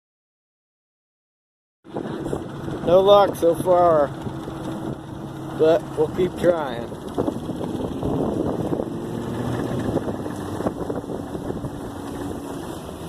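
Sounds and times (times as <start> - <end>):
outboard motor hum: 1.8 - 13.0
wind buffeting microphone: 1.9 - 13.0.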